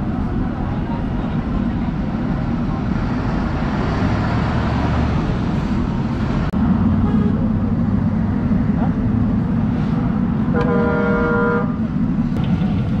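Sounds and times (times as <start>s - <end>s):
vehicle traffic rumble: 0.0s - 13.0s.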